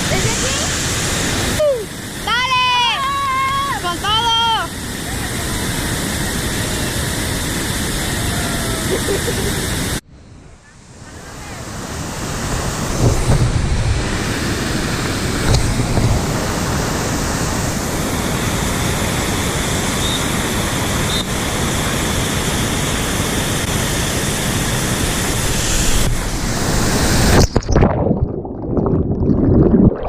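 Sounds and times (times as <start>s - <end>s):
waterfall roaring: 0.0s - 10.0s, 11.0s - 27.5s.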